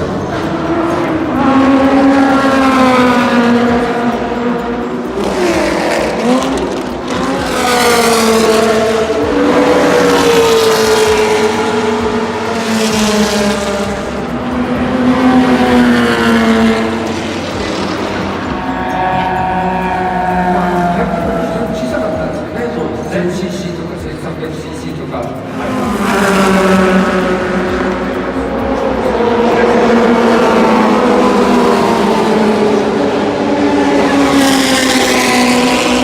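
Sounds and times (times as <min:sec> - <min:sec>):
racing car engines passing: 0:00.0 - 0:36.0.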